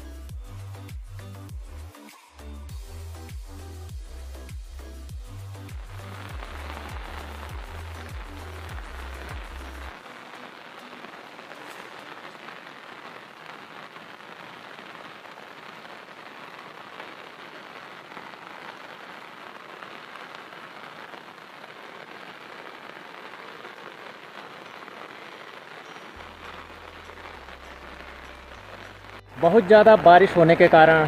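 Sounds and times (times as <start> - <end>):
heavy rain falling: 2.7 - 31.0.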